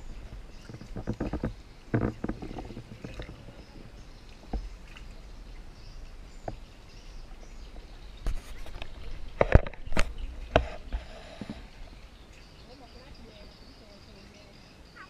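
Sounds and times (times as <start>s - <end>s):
paddle in water: 0.0s - 15.0s.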